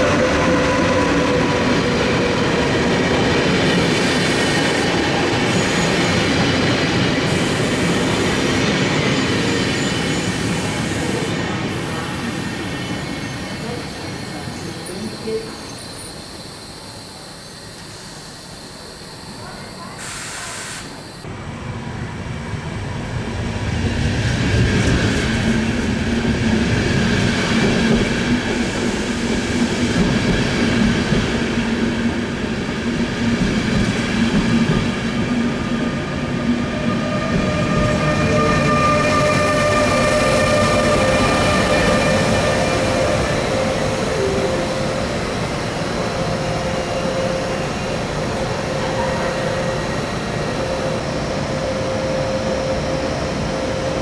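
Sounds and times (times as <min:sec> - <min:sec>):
train whining tones: 0:00.0 - 0:21.6, 0:24.5 - 0:54.0
train running past: 0:00.0 - 0:54.0.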